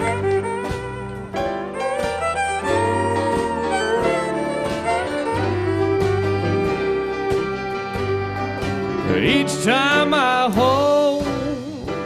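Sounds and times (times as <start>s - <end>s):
fiddles playing melody: 0.0s - 10.7s
western swing band playing: 0.0s - 12.0s.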